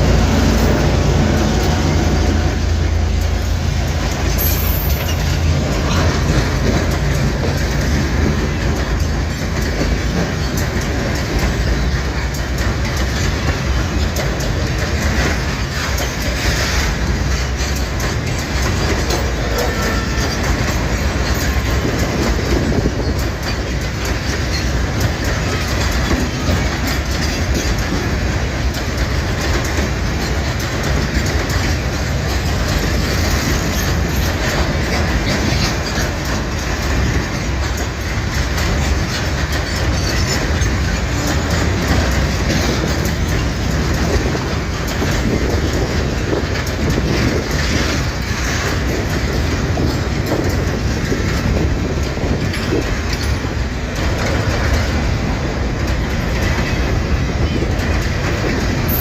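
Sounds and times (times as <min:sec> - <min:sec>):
freight train rumbling past: 0:00.0 - 0:59.0
wheels clattering over rail joints: 0:00.0 - 0:59.0.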